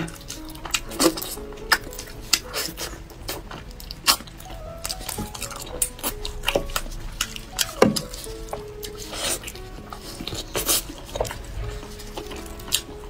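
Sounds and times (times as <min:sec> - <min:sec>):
soft background music: 0:00.0 - 0:13.0
wet chewing and smacking: 0:00.0 - 0:13.0.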